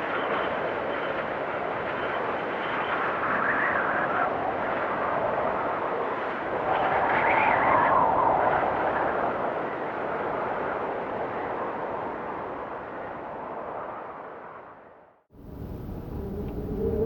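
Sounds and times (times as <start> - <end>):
blizzard wind gusting: 0.0 - 17.0.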